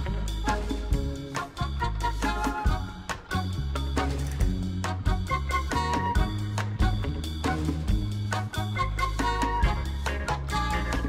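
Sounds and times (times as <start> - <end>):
swing background music: 0.0 - 11.0.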